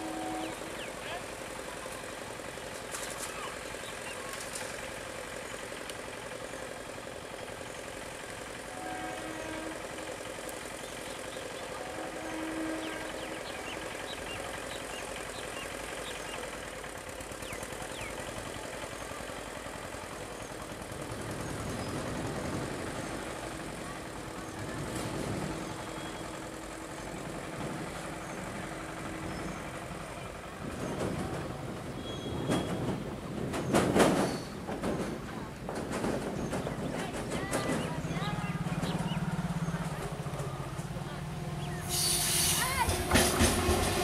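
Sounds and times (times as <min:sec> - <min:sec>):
electric train rumble: 0:00.0 - 0:44.0
train wheels clattering over rails: 0:00.0 - 0:44.0.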